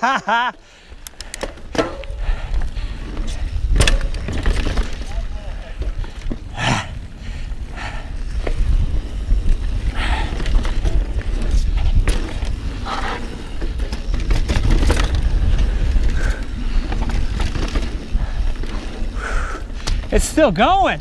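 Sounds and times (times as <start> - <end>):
bike tyre noise: 0.2 - 21.0
bike rattling over rocks: 1.0 - 6.6, 8.3 - 21.0
wind rumble on microphone: 2.0 - 20.1.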